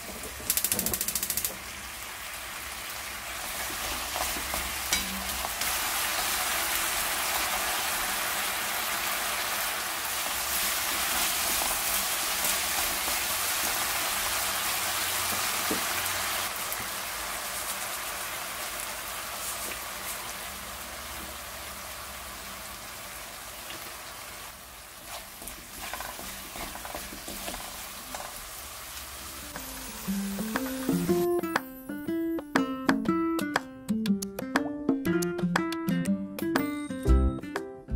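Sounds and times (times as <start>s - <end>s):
fish sizzling in a wok: 0.0s - 31.9s.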